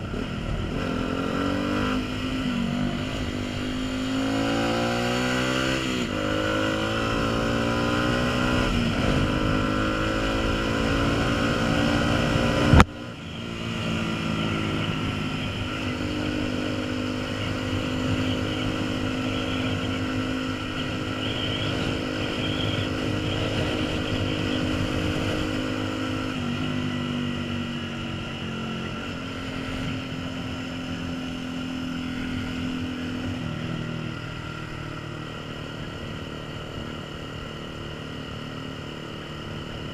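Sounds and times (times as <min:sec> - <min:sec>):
wind rushing over microphone: 0:00.0 - 0:34.0
motorcycle engine accelerating: 0:00.0 - 0:39.9.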